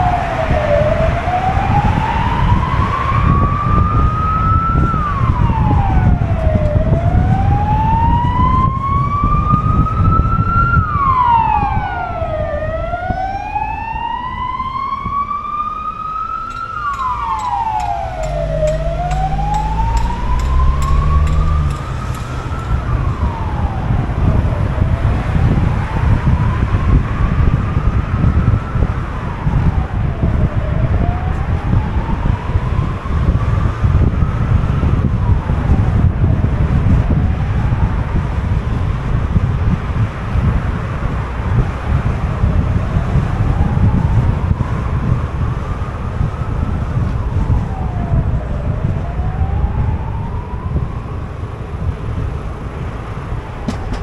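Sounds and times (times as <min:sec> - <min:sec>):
emergency siren wailing: 0:00.0 - 0:54.0
road noise rumble: 0:00.0 - 0:54.0.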